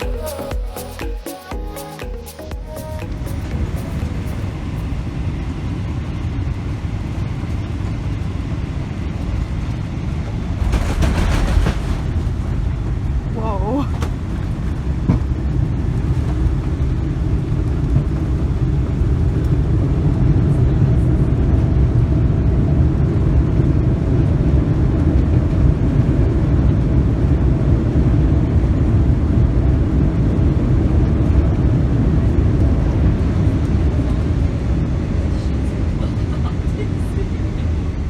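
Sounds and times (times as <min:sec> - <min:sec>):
airplane cabin low rumble: 0:02.8 - 0:38.0.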